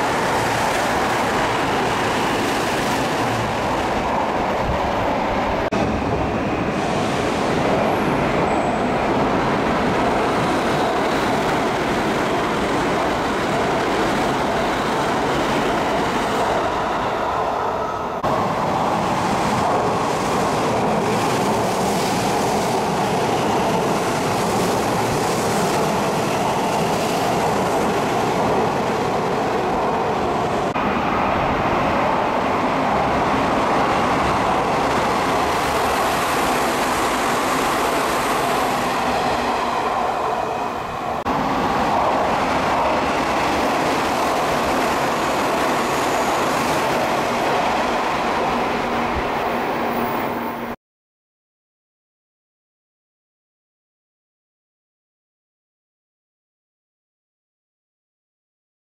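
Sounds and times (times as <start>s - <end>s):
train wheels rumbling on rail: 0.0s - 50.7s.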